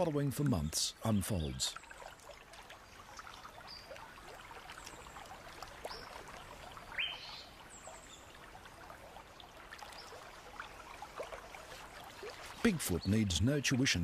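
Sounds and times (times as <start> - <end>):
water trickling and dripping: 0.0 - 14.0.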